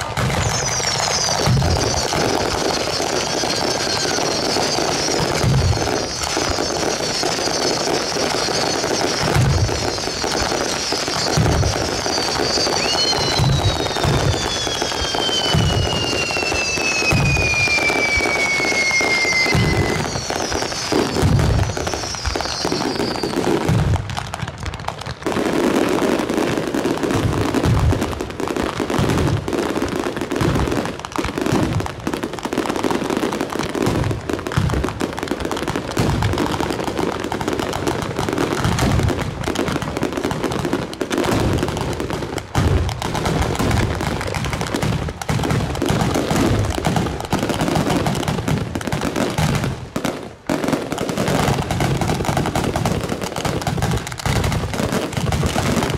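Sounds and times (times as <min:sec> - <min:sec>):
falling firework whistle: 0:00.0 - 0:55.9
firework bangs and crackles: 0:00.0 - 0:55.9.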